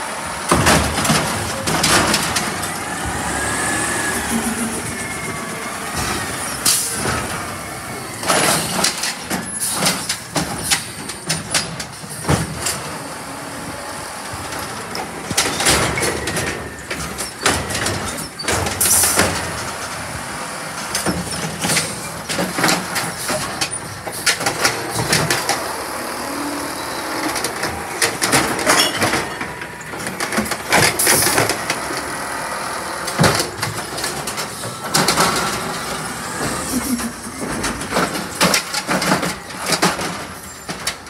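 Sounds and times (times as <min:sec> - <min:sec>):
garbage truck engine running: 0:00.0 - 0:41.0
sharp clanks and rattles: 0:00.3 - 0:03.4, 0:04.2 - 0:13.2, 0:14.2 - 0:41.0.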